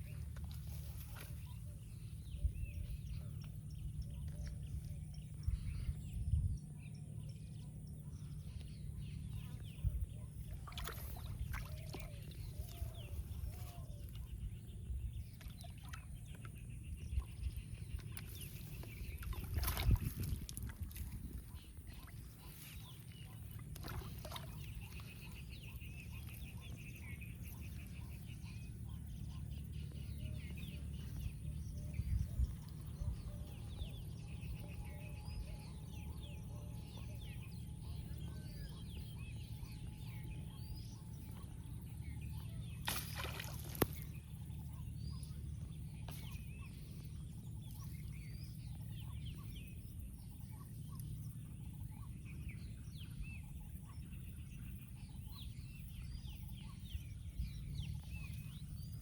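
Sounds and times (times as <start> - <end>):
bird chirps: 0.0 - 59.0
rapid pulsed bird calls: 0.0 - 59.0
steady low rumble: 0.0 - 59.0.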